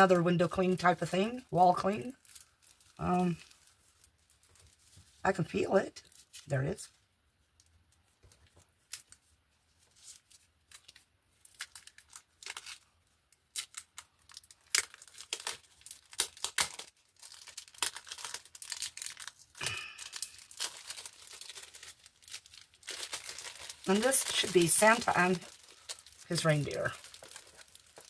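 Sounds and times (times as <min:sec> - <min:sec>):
plastic packaging crinkling: 0:01.1 - 0:06.8, 0:07.5 - 0:28.0.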